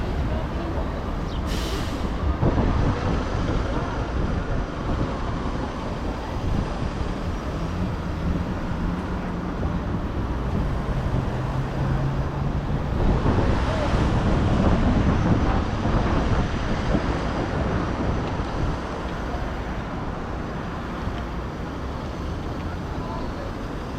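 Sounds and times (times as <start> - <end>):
street traffic: 0.0 - 23.9.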